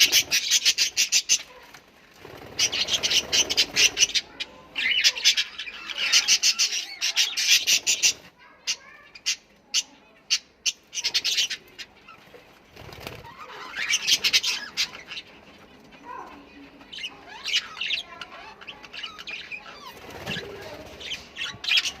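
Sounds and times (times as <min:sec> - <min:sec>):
parrots chirping and squawking: 0:00.0 - 0:22.0.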